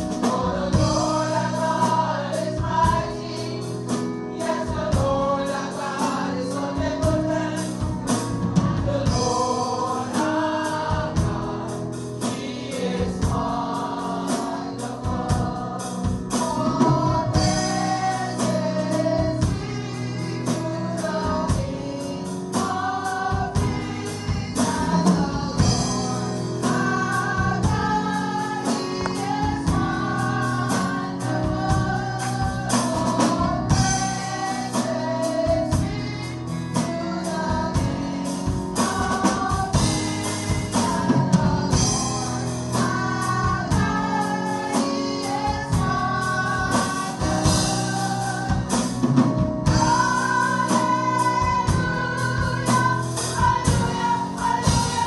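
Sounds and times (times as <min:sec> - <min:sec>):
instrumental backing: 0:00.0 - 0:55.0
steady percussive beat: 0:00.0 - 0:55.0
women's choir singing: 0:00.0 - 0:55.0.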